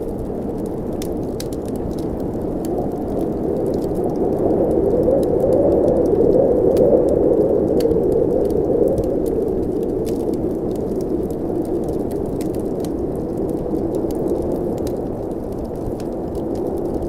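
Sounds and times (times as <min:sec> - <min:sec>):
wood fire crackling: 0:00.0 - 0:17.0
blizzard wind rushing: 0:00.2 - 0:17.0.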